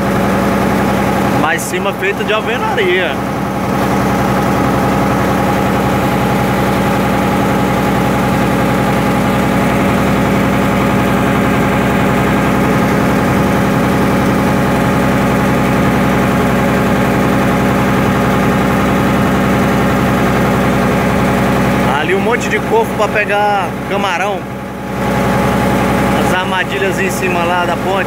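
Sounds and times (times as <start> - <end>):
boat diesel engine puttering: 0.0 - 28.0.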